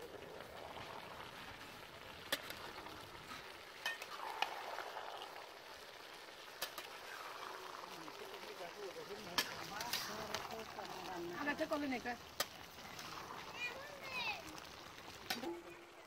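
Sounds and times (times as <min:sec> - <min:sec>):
curry sizzling in a pot: 0:00.0 - 0:16.0.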